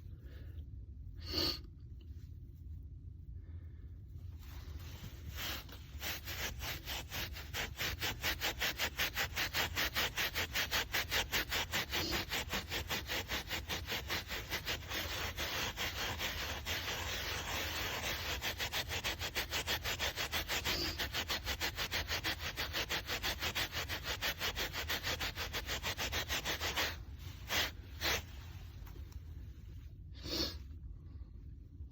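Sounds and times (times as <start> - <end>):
carpet scrubbed by hand: 4.4 - 30.6.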